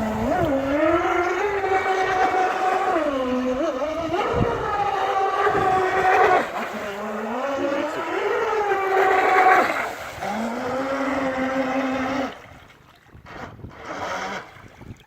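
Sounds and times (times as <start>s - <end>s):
model jet ski motor whine: 0.0s - 15.0s.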